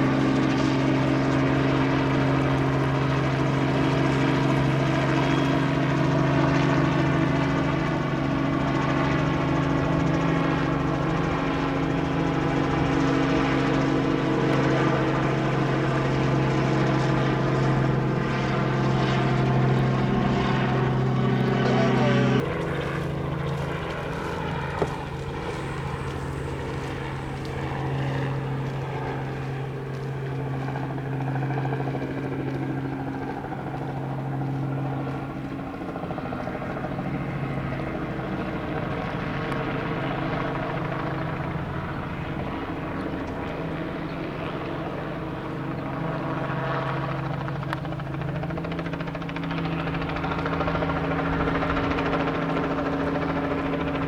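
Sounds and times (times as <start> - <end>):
helicopter droning hum: 0.0 - 54.0.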